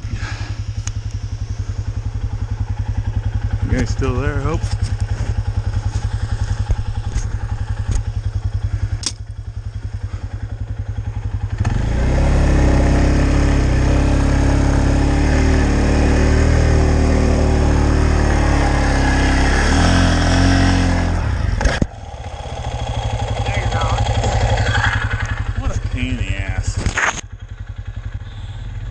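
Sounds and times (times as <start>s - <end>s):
vehicle engine idling and revving: 0.0s - 28.9s.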